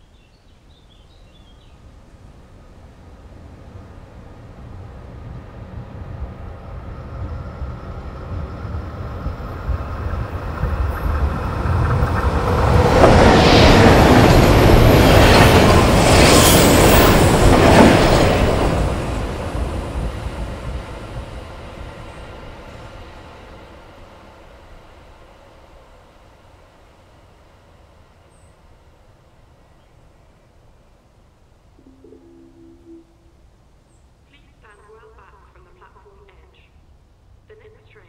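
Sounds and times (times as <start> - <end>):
train rumbling past: 0.9 - 33.9.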